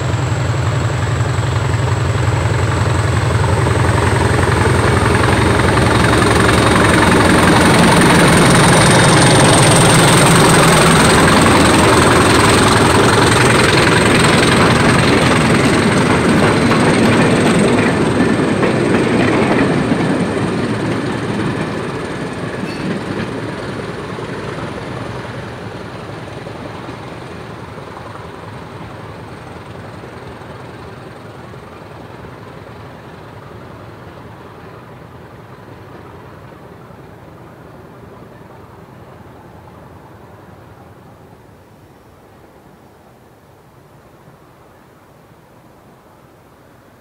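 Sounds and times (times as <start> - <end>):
train running on rails: 0.0 - 47.0.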